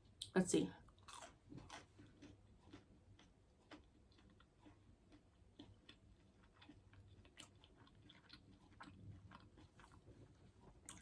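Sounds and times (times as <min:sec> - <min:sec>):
chewing food: 0:00.1 - 0:11.0.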